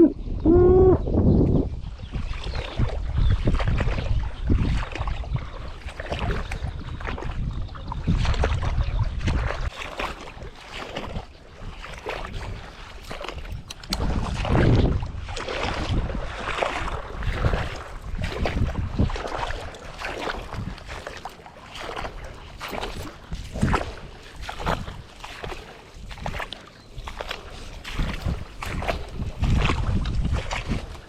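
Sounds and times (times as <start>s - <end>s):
wind buffeting microphone: 0.0s - 31.0s
water splashing around boat: 1.8s - 31.0s.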